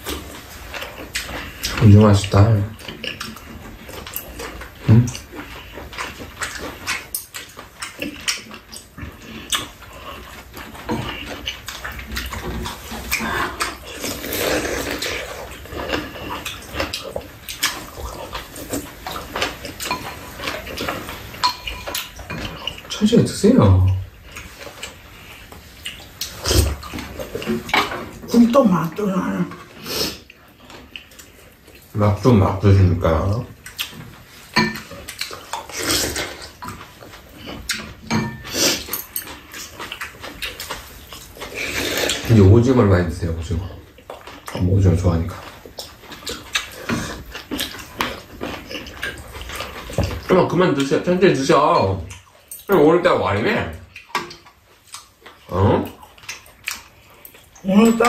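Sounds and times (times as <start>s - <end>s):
slurping and chewing: 0.0s - 58.0s.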